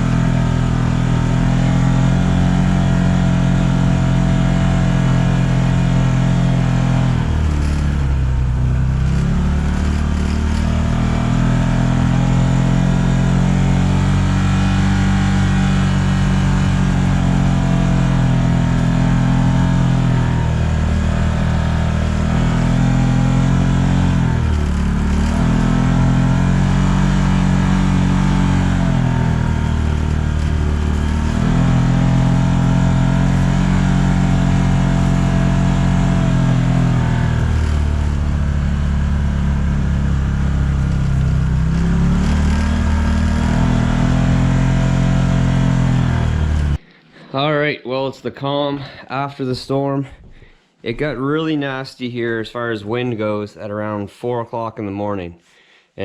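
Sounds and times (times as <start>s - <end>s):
vehicle engine running: 0.0s - 46.8s.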